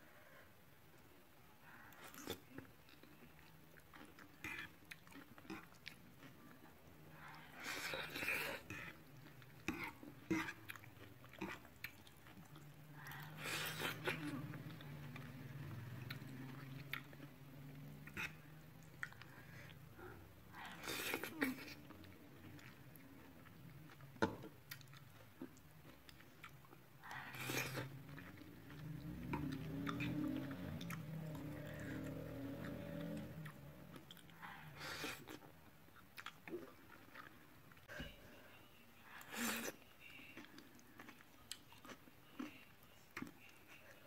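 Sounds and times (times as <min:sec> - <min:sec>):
noodles chewed and slurped: 0:01.7 - 0:37.9.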